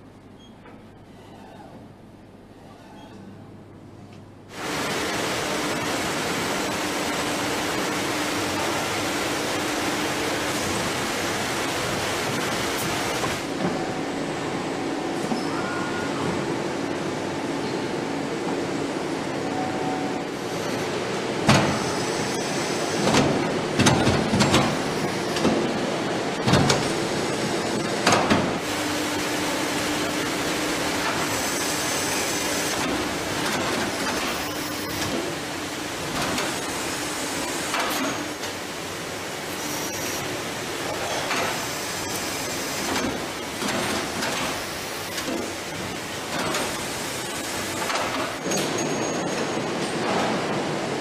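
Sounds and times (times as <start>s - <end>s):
machine hum and hiss: 0.0s - 51.0s.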